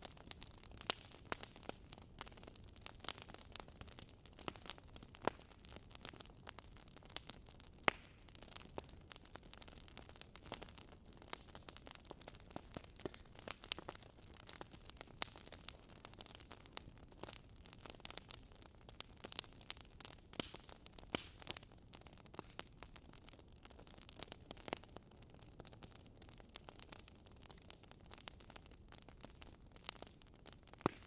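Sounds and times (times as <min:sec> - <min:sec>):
firewood crackling and popping: 0:00.0 - 0:31.0.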